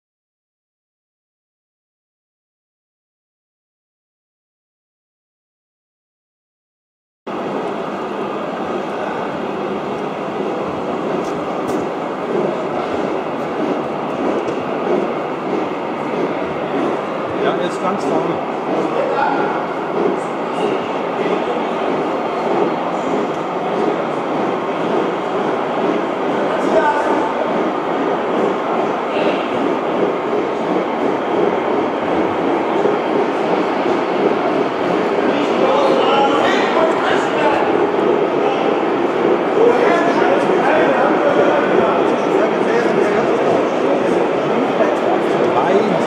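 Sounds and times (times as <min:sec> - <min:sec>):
model train wheels rumbling on rail: 0:07.3 - 0:46.0.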